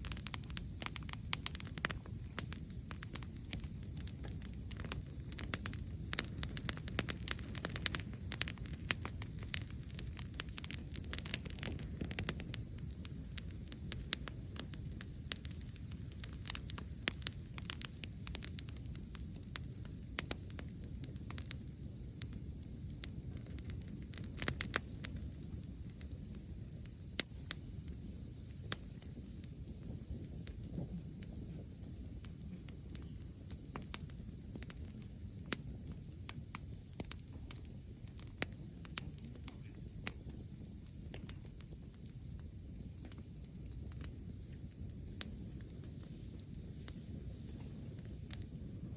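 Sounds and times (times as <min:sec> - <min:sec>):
bonfire crackling and popping: 0:00.0 - 0:48.9
low rumble of fire: 0:00.0 - 0:48.9.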